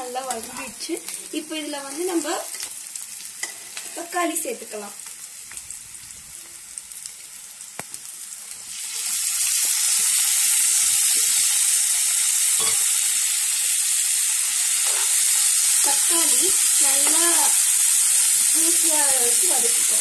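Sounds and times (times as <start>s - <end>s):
oil sizzling: 0.0s - 20.0s.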